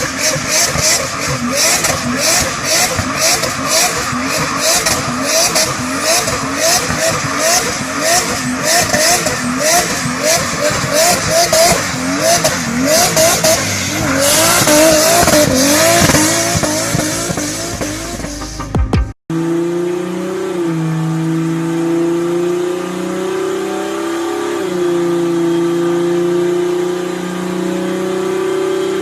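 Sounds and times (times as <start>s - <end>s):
turbocharged car engine revving: 0.0s - 29.0s.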